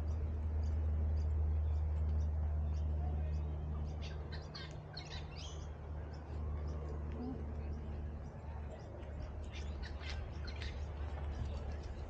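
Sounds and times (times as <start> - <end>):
birds chirping: 0.0 - 12.0
steady low rumble: 0.0 - 12.0.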